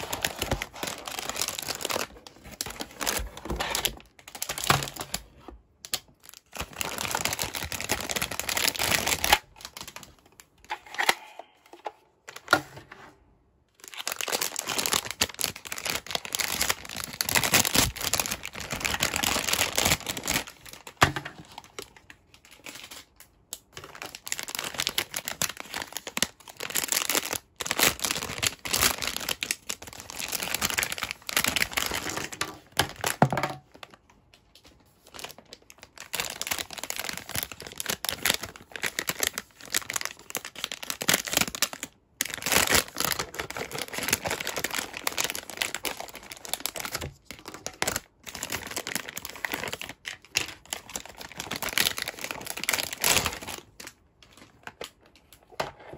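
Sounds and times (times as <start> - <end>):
plastic bags crinkling: 0.0 - 12.6, 13.8 - 55.6.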